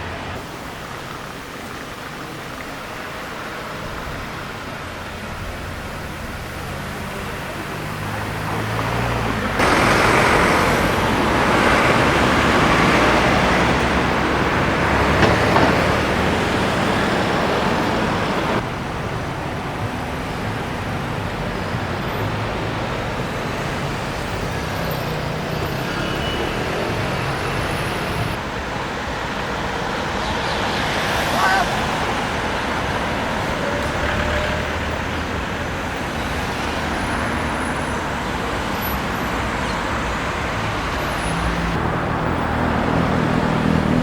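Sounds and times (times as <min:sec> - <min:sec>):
cars passing: 0:00.0 - 0:44.0.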